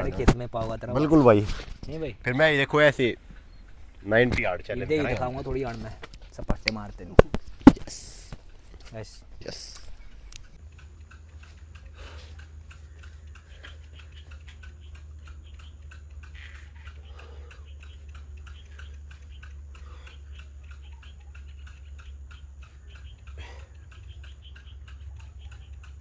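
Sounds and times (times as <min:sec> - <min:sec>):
fast regular ticking: 0:00.0 - 0:26.0
steady low hum: 0:00.0 - 0:26.0.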